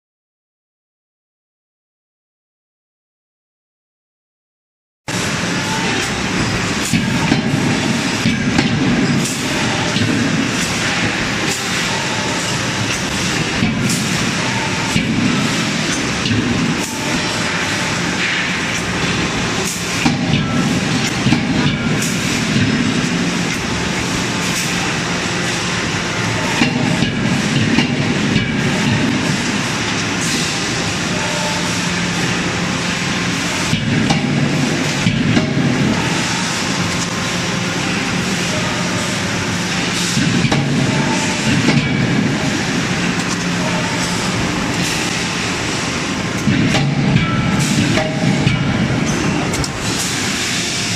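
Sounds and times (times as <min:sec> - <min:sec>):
clattering forging machinery: 0:05.1 - 0:50.9.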